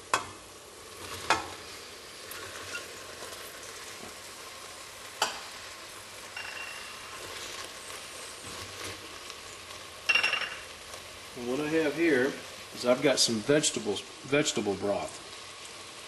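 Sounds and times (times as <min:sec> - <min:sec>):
soup base sizzling in a pot: 0:00.0 - 0:16.0.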